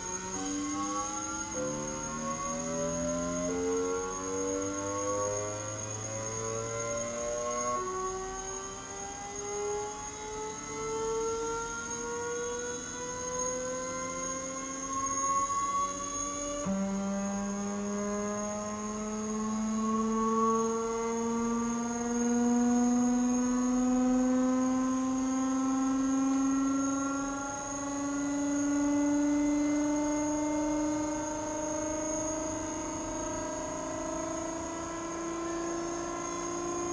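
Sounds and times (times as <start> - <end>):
constant high-pitched tone: 0.0 - 36.9
electric motor whine rising: 0.0 - 36.9.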